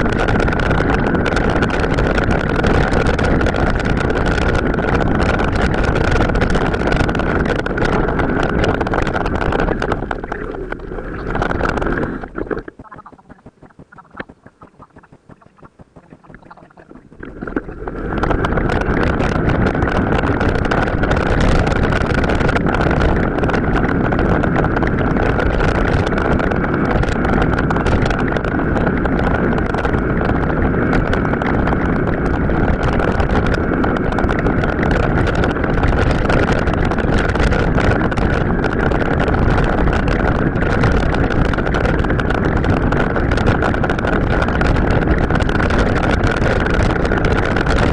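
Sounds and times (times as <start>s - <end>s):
bike tyres and drivetrain rumbling: 0.0s - 47.9s
scattered ticks: 0.0s - 47.9s
wind rushing over microphone: 0.0s - 47.9s.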